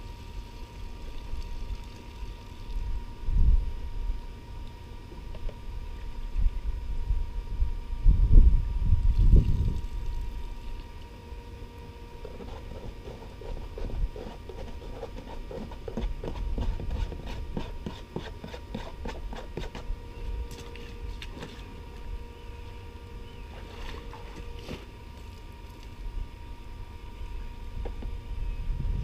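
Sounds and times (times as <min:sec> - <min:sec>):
small pump engine humming: 0:00.0 - 0:29.0.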